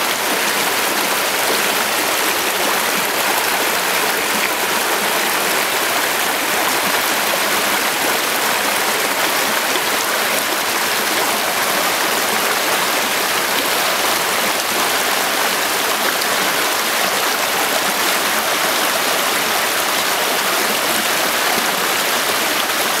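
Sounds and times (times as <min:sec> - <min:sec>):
creek water flowing: 0:00.0 - 0:23.0.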